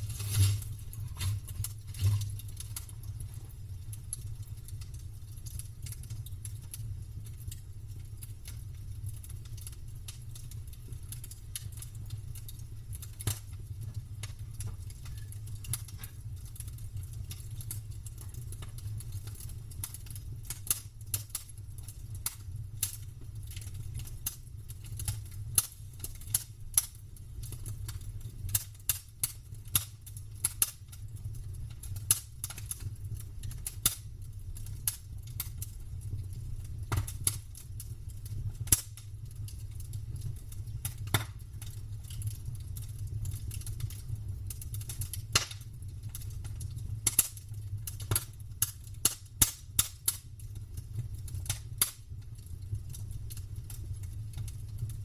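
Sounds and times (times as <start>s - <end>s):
campfire crackling and popping: 0.0s - 55.0s
fire rumbling: 0.0s - 55.0s.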